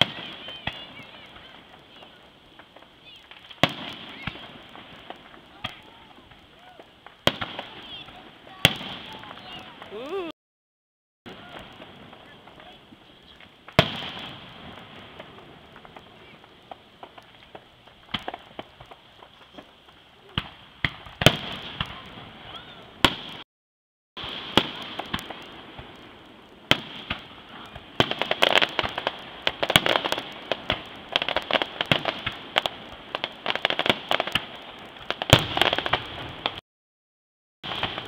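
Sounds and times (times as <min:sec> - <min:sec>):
fireworks bangs and crackling: 0:00.0 - 0:10.3, 0:11.3 - 0:23.5, 0:24.2 - 0:36.6, 0:37.6 - 0:38.0.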